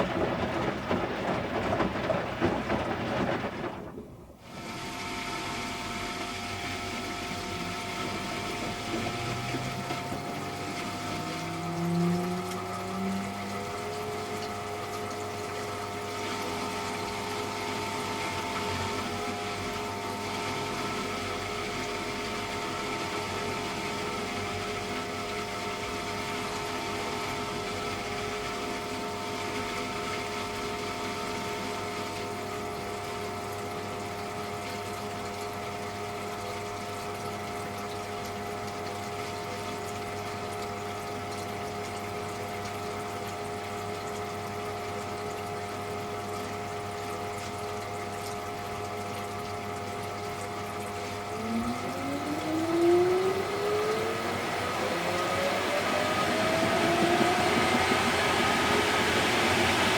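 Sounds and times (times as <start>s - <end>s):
water rushing: 0.0s - 29.1s, 30.8s - 59.9s
washing machine humming: 0.0s - 59.9s.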